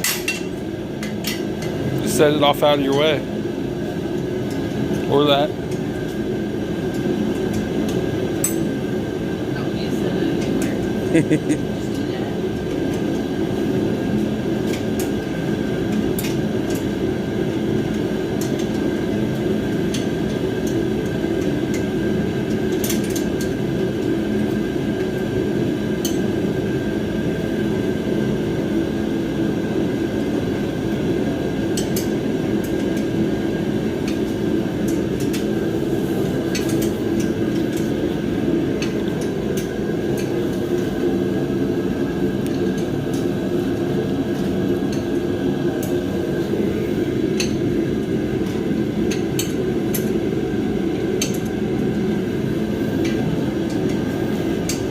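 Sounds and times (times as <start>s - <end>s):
propane heater running: 0.0s - 54.9s.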